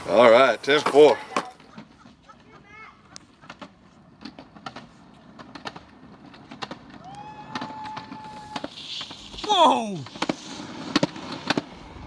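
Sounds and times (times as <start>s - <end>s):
scooter wheels rolling on concrete: 0.0s - 12.0s.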